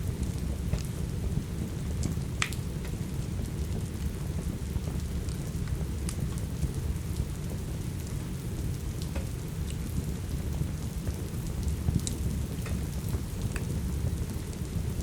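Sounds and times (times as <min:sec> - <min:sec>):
steady rain: 0:00.0 - 0:15.0
wood fire crackling: 0:00.0 - 0:15.0.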